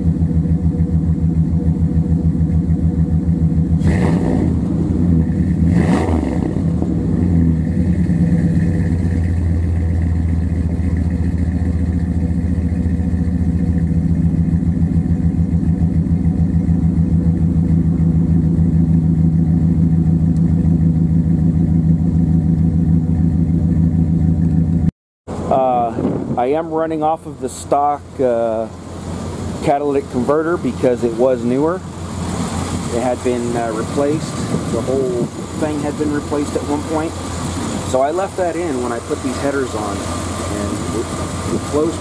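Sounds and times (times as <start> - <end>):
engine exhaust idling with revs: 0.0 - 42.0.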